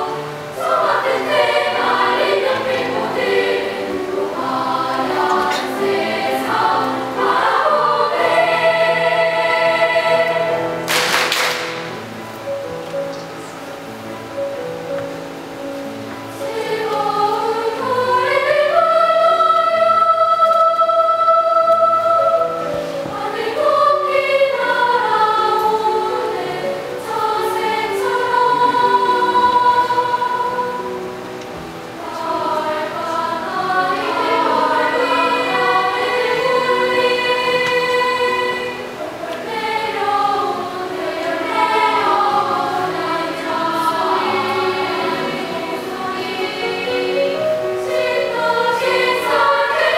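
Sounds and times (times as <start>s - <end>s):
children's choir singing: 0.0s - 49.9s.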